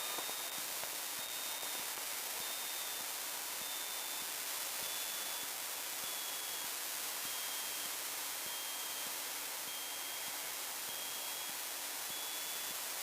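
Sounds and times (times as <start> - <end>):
electrical static hiss: 0.0 - 13.0.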